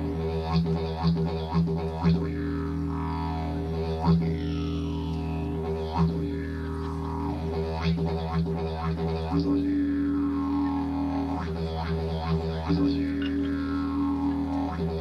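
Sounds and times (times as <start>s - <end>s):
didgeridoo drone: 0.0s - 15.0s.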